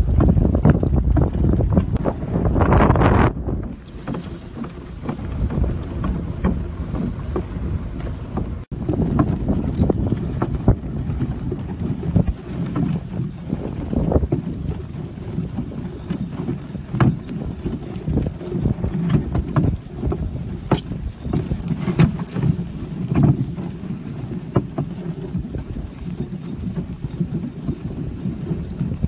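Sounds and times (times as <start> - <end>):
sleigh runners rumbling on snow: 0.0 - 29.0.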